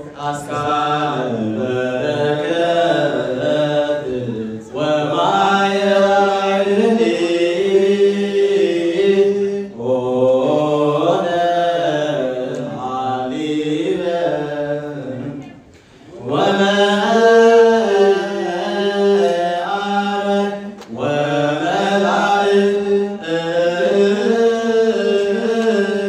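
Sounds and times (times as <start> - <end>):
men chanting a hymn: 0.0 - 26.0.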